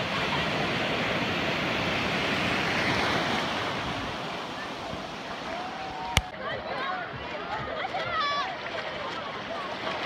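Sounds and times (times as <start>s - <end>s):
small waves breaking: 0.0s - 10.0s.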